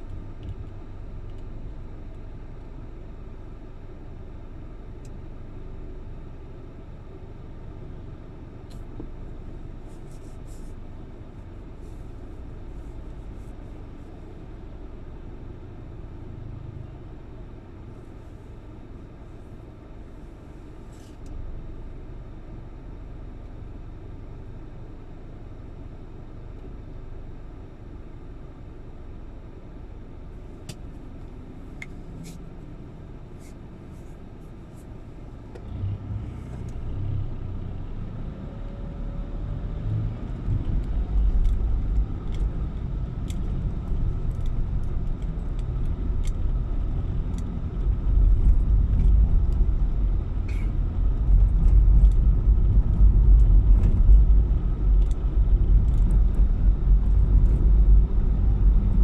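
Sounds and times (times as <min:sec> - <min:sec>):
car rumbling: 0:00.0 - 0:59.0.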